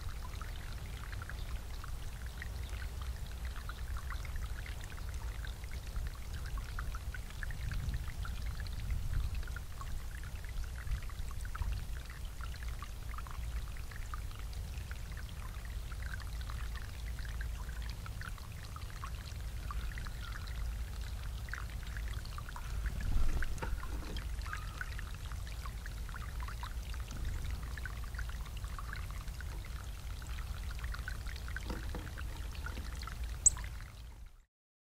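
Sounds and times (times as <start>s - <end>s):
water feature splashing trickle: 0.0s - 34.5s.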